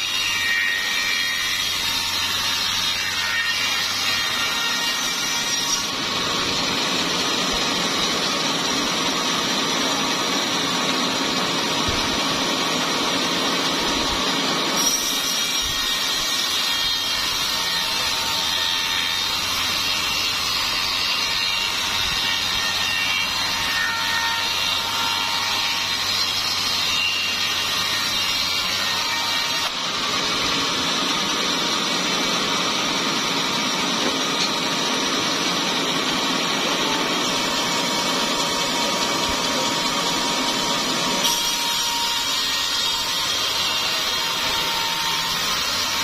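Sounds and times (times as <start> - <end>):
band saw cutting log: 0.0 - 46.0.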